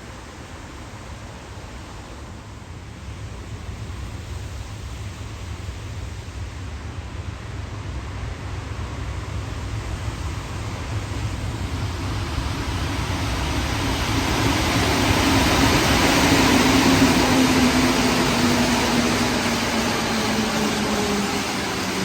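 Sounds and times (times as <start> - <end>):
metro train running: 0.0 - 22.0.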